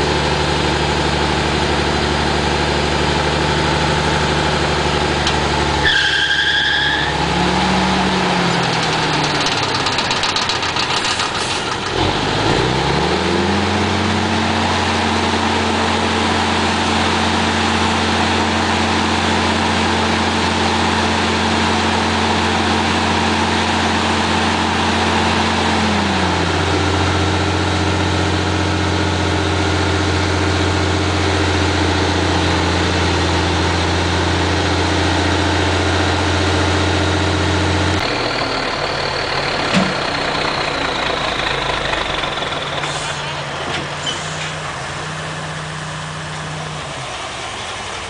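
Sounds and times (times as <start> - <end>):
diesel truck engine idling: 0.0 - 5.9, 6.5 - 48.0.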